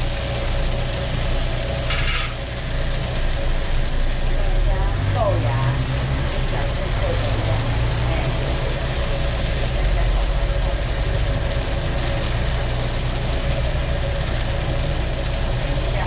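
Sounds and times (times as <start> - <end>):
low rumble with hum: 0.0 - 16.0
omelette sizzling on griddle: 0.0 - 16.0.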